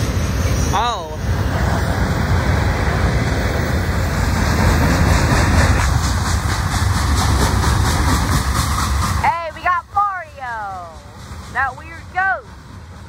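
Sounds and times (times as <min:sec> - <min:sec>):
freight train cars rolling past: 0:00.0 - 0:13.0.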